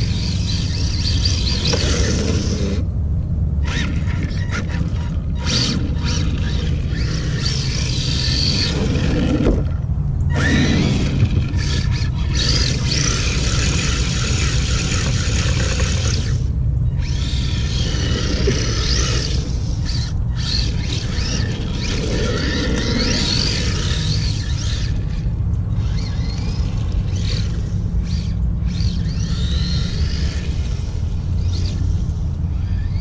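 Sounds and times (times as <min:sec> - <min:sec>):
electric motor whining: 0:00.0 - 0:03.0, 0:03.6 - 0:33.0
steady low rumble: 0:00.0 - 0:33.0.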